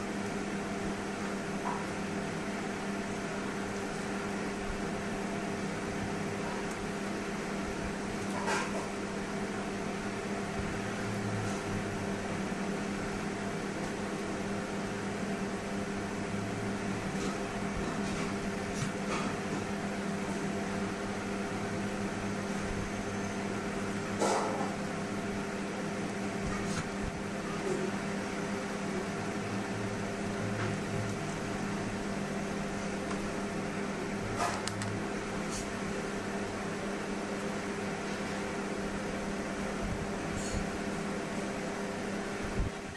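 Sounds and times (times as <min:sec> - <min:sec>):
appliance electrical hum: 0:00.0 - 0:42.9.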